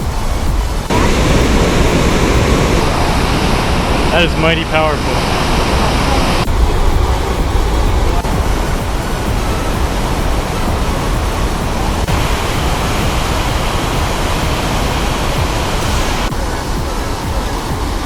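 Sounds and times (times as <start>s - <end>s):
whitewater river rushing: 0.0s - 18.0s.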